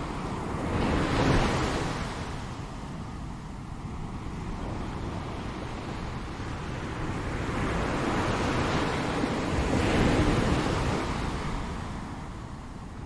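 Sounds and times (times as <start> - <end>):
ocean waves washing on shore: 0.0 - 13.0.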